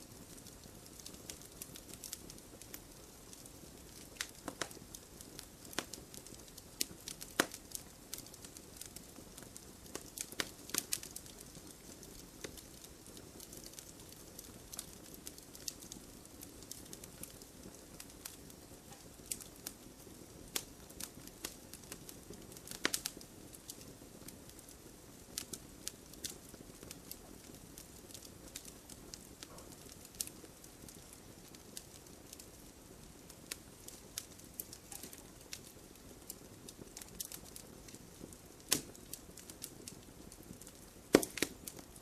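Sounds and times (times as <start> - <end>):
soft hiss of burning: 0.0 - 42.0
campfire pops and snaps: 0.3 - 23.9, 25.3 - 32.5, 33.2 - 42.0.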